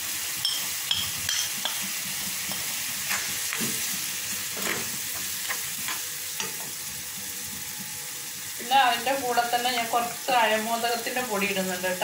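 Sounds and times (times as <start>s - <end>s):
food sizzling in pan: 0.0s - 12.0s.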